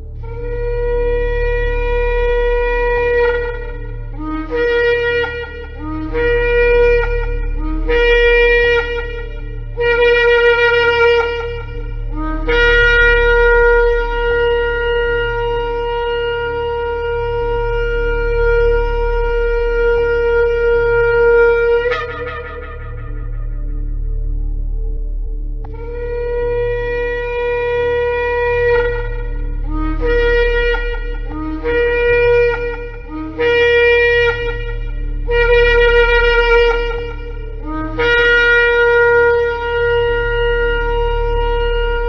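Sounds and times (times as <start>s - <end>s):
ram's horn blasts: 0.0s - 42.0s
steady low hum: 0.0s - 42.0s.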